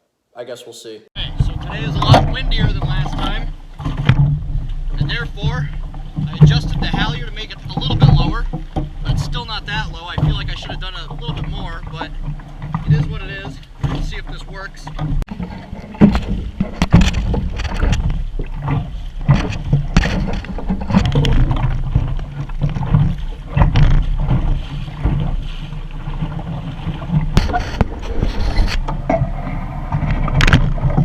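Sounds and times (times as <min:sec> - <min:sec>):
knocks from hull and rigging: 0:01.2 - 0:31.0
water splashing: 0:01.2 - 0:31.0.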